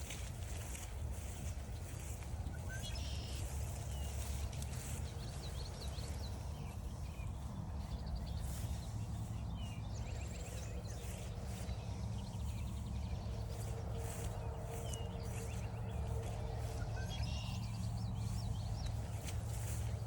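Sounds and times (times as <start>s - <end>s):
footsteps on forest trail: 0.0s - 20.0s
songbirds chirping and trilling: 0.0s - 20.0s
steady low rumble: 0.0s - 20.0s.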